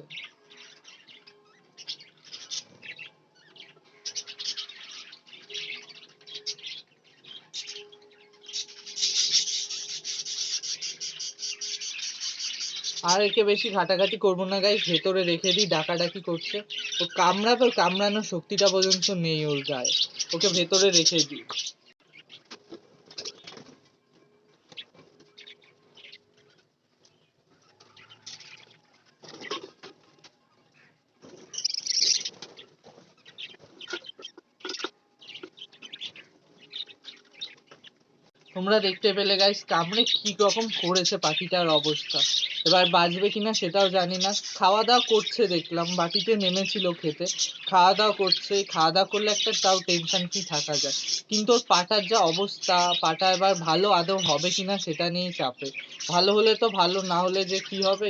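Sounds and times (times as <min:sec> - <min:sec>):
budgerigars chirping and chattering: 0:00.0 - 0:23.8, 0:24.7 - 0:26.7, 0:27.6 - 0:30.0, 0:30.8 - 0:58.0.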